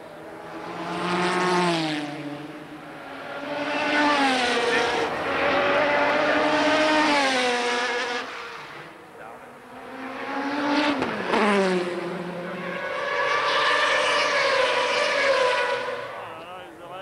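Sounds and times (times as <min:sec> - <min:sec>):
race cars passing at speed: 0:00.0 - 0:17.0.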